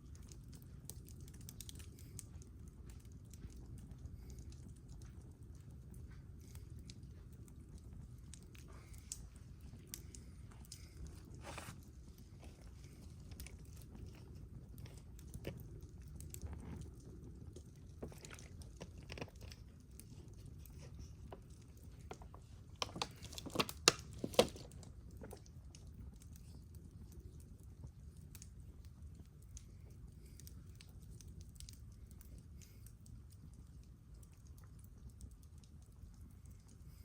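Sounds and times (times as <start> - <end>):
campfire crackling and popping: 0.0 - 37.0
low steady rumble: 0.0 - 37.0.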